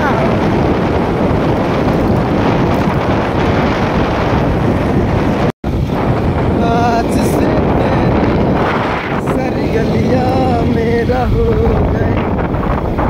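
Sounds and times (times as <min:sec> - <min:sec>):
motorcycle running: 0:00.0 - 0:13.0
wind rushing over microphone: 0:00.0 - 0:13.0.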